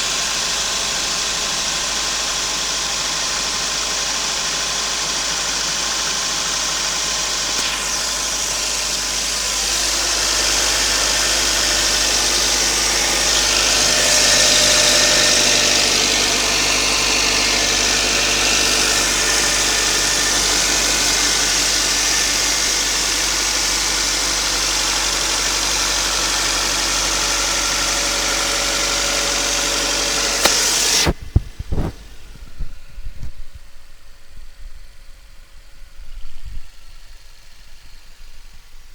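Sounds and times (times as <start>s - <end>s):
car engine running with knock: 0.0s - 38.9s.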